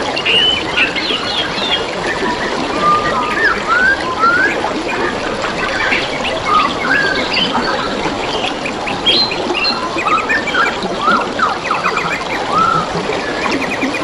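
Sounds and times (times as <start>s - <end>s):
water trickling: 0.0s - 14.0s
birds chirping and whistling: 0.2s - 14.0s.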